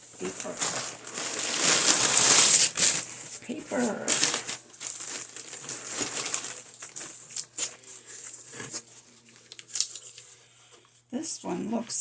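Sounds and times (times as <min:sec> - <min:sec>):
paper wrapping crinkling: 0:00.0 - 0:10.5.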